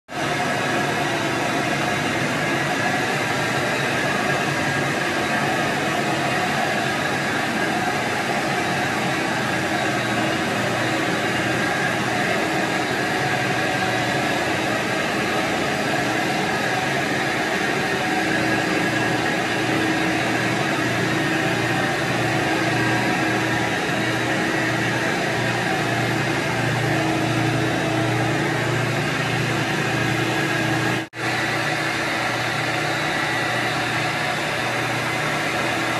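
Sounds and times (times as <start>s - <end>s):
carpet extraction tool running: 0.1s - 35.9s.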